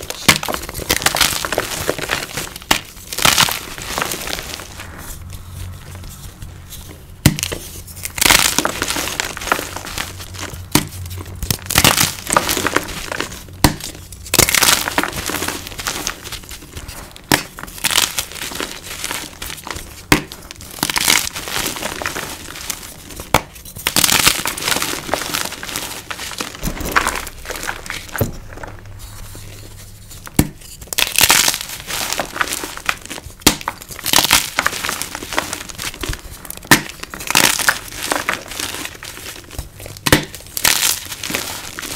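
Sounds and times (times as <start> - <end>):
chalk blocks crunching: 0.0 - 41.9.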